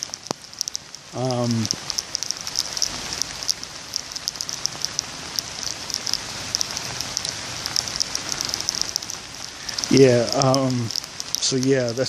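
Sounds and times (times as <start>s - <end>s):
rain falling: 0.0s - 12.0s
raindrops ticking nearby: 0.0s - 12.0s.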